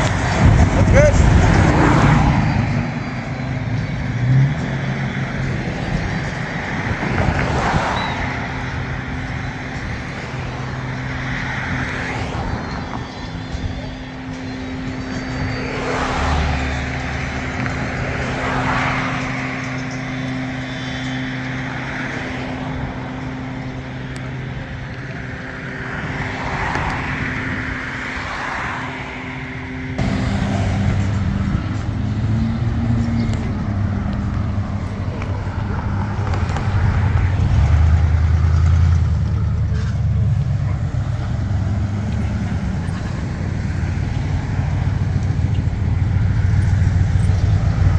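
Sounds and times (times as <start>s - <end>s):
car engines running: 0.0s - 47.9s
loud deep engine: 0.0s - 47.9s.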